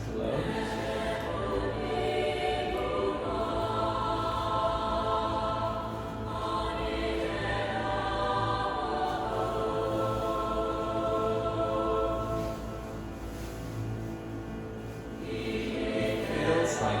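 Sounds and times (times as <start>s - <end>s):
background music with choir-like voices: 0.0s - 17.0s.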